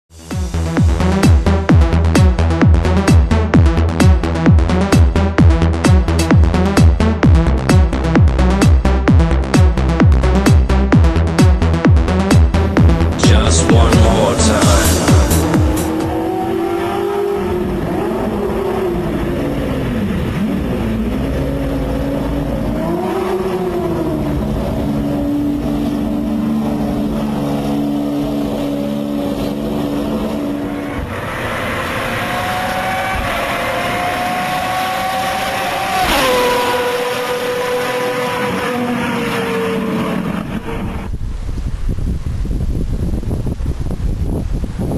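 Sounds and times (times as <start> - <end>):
race engine revving: 0.3 - 41.1.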